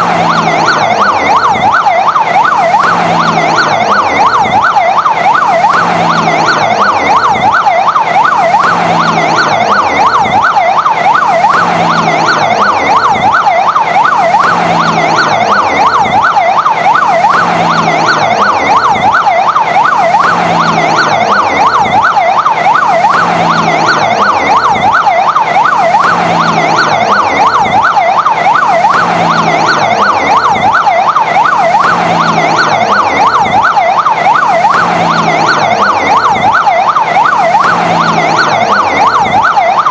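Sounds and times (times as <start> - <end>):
fire engine siren yelping: 0.0 - 39.9.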